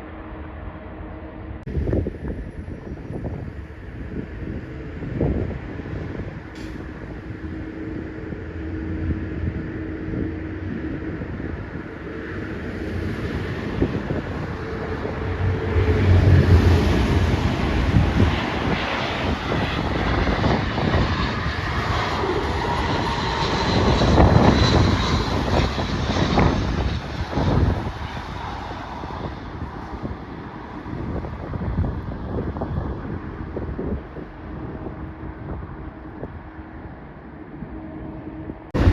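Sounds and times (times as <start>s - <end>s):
jet airliner passing: 0.0s - 38.9s
wind buffeting microphone: 0.0s - 38.9s.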